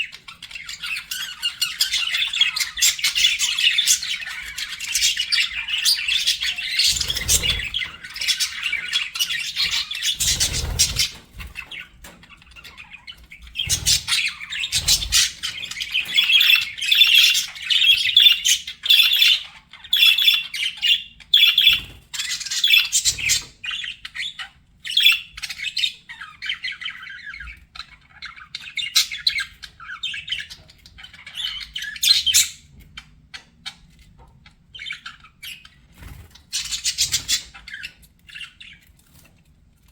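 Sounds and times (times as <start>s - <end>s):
budgerigars chattering: 0.0s - 34.0s, 34.7s - 39.0s.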